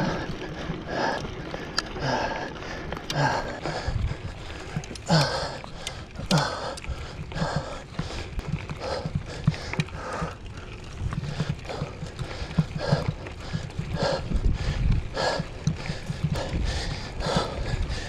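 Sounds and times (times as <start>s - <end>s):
bike rattling and thumping: 0.0s - 18.0s
rider breathing hard: 0.0s - 18.0s.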